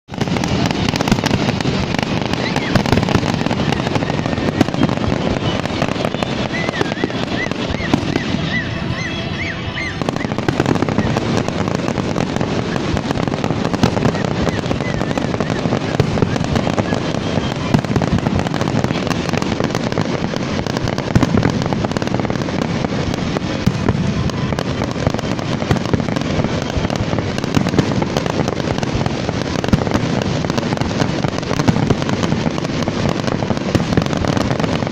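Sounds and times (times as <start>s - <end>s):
fireworks popping and crackling: 0.0s - 34.9s.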